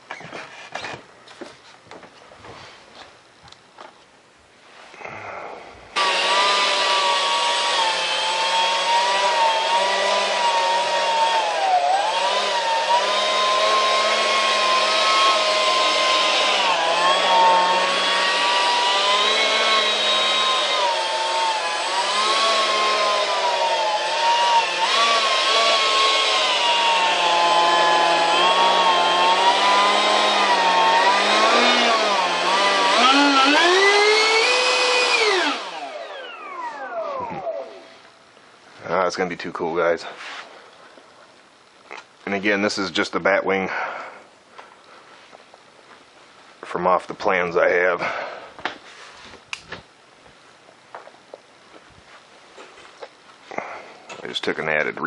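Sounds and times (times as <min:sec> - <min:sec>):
electric ducted fan whining: 0:05.0 - 0:55.0.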